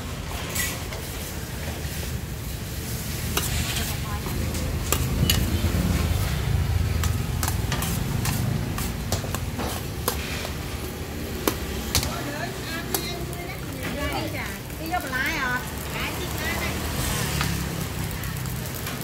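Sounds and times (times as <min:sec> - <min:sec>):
rice sizzling in a wok: 0:00.0 - 0:19.0.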